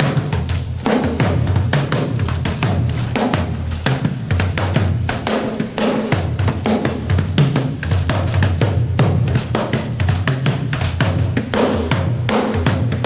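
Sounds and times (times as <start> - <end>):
drum kit playing a steady beat: 0.0 - 13.0.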